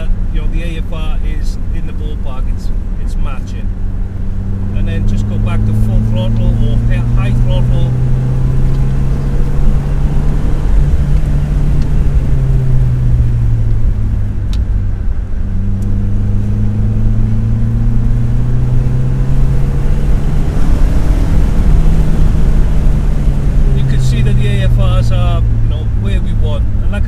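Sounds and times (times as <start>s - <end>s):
car engine pulling at high throttle: 0.0s - 27.0s
road noise: 0.0s - 27.0s.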